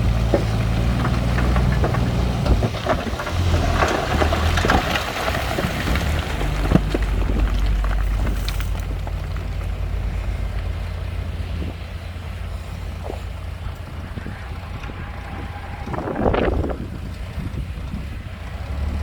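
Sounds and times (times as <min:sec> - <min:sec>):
diesel engine rumbling: 0:00.0 - 0:19.0
machinery clatter: 0:00.0 - 0:19.0.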